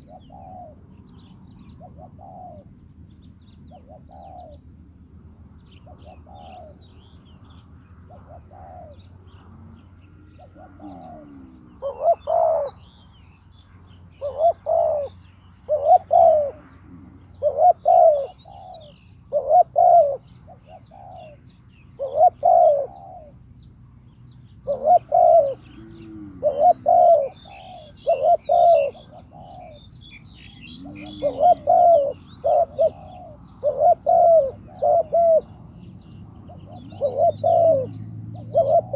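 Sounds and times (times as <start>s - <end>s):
dove cooing: 0.0s - 2.8s, 3.7s - 4.7s, 5.8s - 7.1s, 8.0s - 12.8s, 14.2s - 23.5s, 24.6s - 38.9s
small birds chirping: 0.0s - 38.9s.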